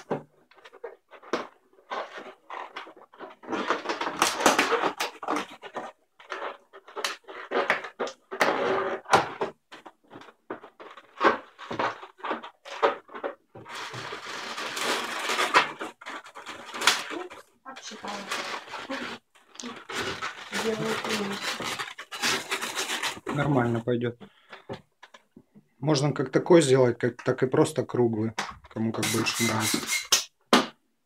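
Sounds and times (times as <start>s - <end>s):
balloons rubbing and squeaking: 0.0s - 24.5s, 28.8s - 30.3s.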